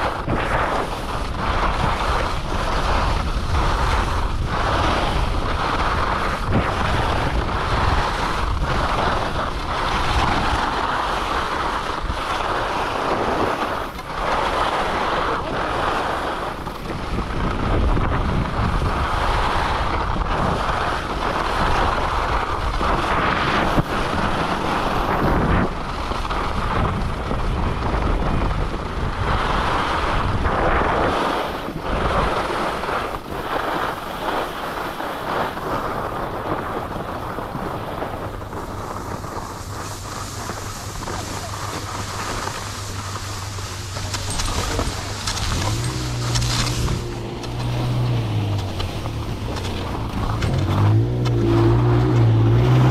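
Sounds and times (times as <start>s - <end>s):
skis scraping over snow: 0.0s - 52.9s
wind rushing over microphone: 0.0s - 52.9s.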